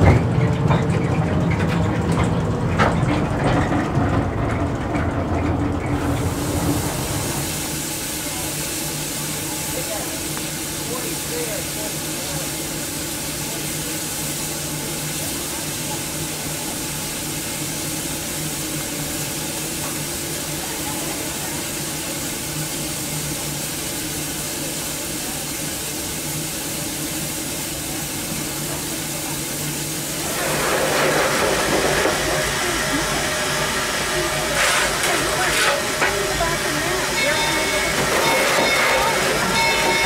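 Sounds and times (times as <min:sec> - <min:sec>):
steam locomotive hissing: 0:05.9 - 0:40.0.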